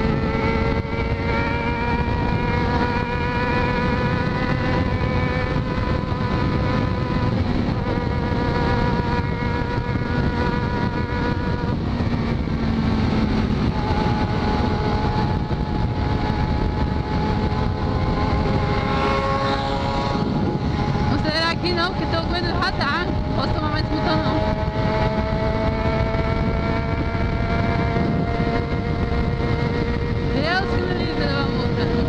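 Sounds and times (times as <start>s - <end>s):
motorcycle engine cruising: 0.0s - 32.0s
wind rushing over microphone: 0.0s - 32.0s.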